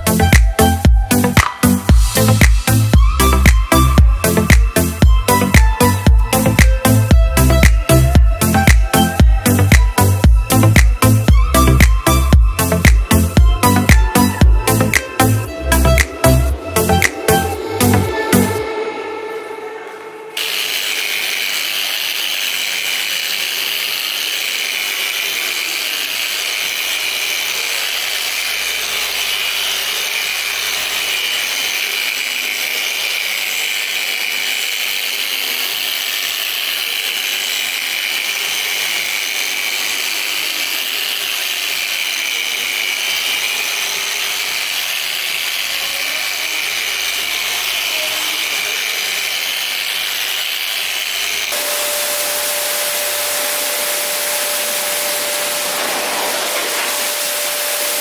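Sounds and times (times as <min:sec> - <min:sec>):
polisher motor whine and pad hiss: 0:00.0 - 0:58.0.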